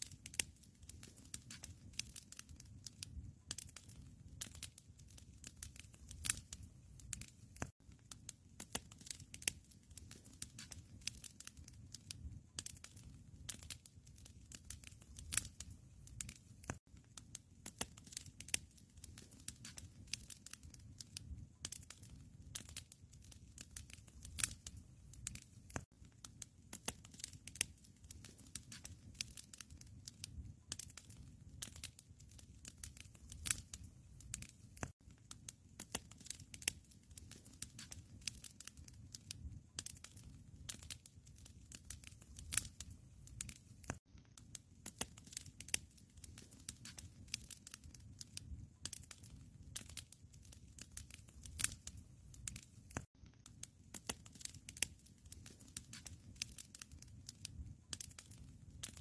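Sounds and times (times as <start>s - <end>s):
fire pops and snaps: 0.0s - 59.0s
low steady fire rumble: 0.0s - 59.0s.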